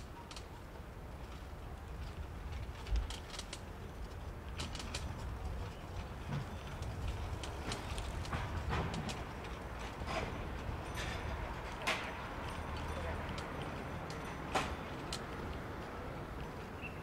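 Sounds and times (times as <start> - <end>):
bicycle clicks and rattles: 0.0 - 17.0
wind and road rumble: 0.0 - 17.0.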